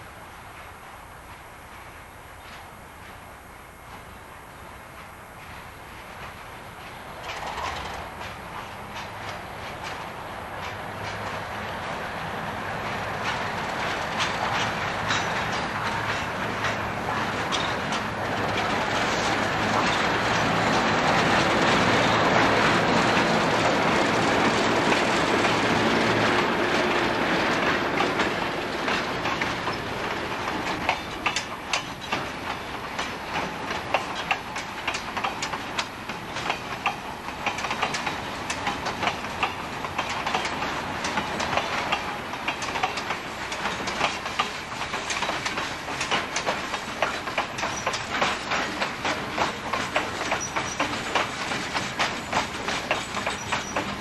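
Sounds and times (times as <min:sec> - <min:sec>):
diesel locomotive rumble: 0:00.0 - 0:54.0
train wheels clacking over rail joints: 0:00.1 - 0:54.0.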